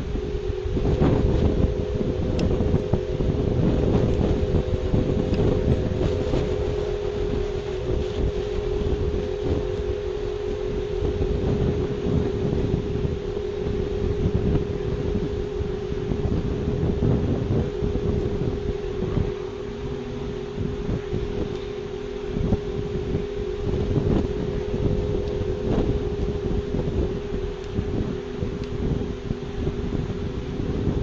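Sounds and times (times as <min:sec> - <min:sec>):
steady two-note hum: 0:00.0 - 0:31.0
wind buffeting microphone: 0:00.0 - 0:31.0.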